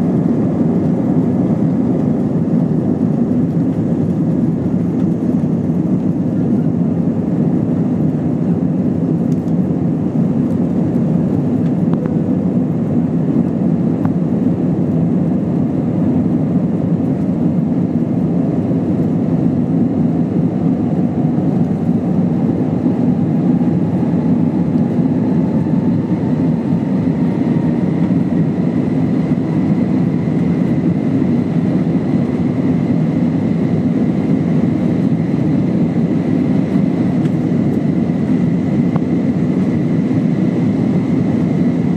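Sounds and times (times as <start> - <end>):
jet engines running with whine: 0.0 - 41.9.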